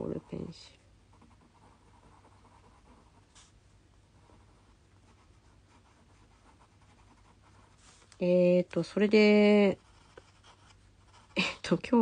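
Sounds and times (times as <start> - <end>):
pencil scratching on paper: 0.0 - 8.1, 9.2 - 12.0.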